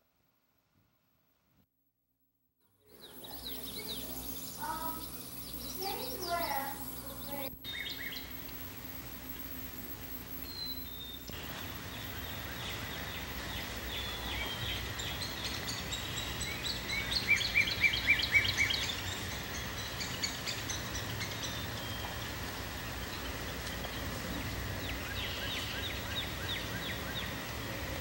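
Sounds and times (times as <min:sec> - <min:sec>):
steady background hiss: 0:02.7 - 0:28.0
birds singing and chirping: 0:02.9 - 0:28.0.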